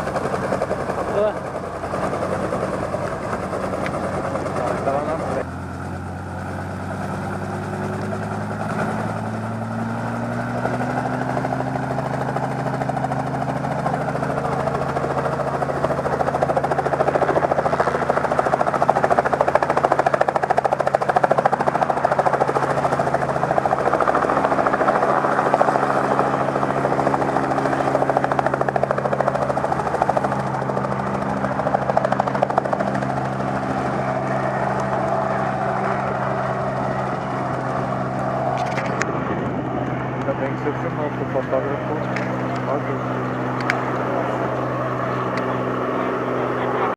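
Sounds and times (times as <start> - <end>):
vehicle engine speeding up: 0.0 - 46.9.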